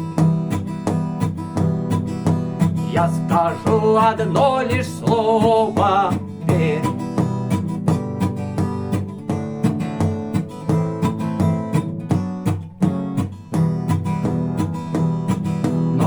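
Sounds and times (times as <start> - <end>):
acoustic guitar strumming: 0.0 - 16.0
knocks on guitar body: 0.0 - 16.0.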